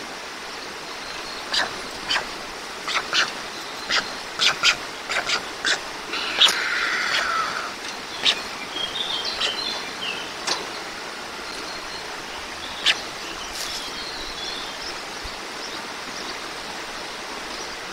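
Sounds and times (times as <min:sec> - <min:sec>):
background hiss: 0:00.0 - 0:17.9
small birds chirping: 0:00.6 - 0:17.9.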